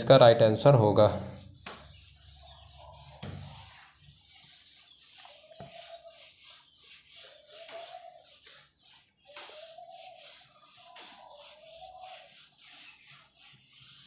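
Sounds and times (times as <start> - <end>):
duster wiping whiteboard: 0.0 - 14.0.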